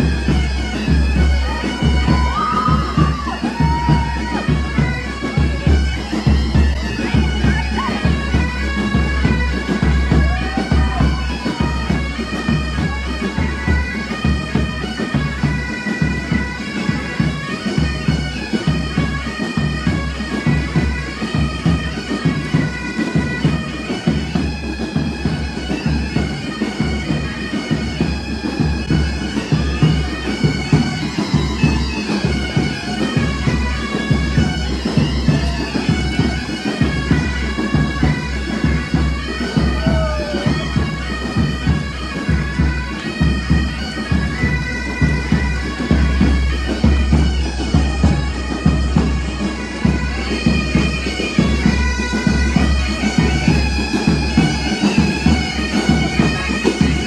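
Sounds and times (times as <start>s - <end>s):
bagpipes playing a march: 0.0s - 57.0s
drums beating time: 0.0s - 57.0s.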